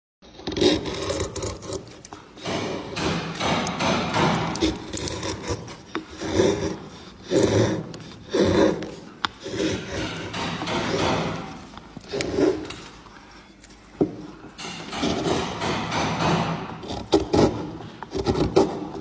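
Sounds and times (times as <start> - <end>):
knife shaving wood: 0.2 - 14.0, 16.8 - 19.0.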